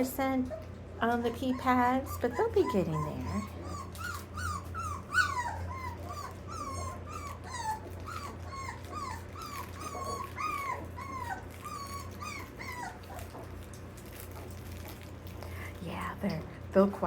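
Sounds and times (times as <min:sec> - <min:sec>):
puppies whining: 0:00.0 - 0:15.4.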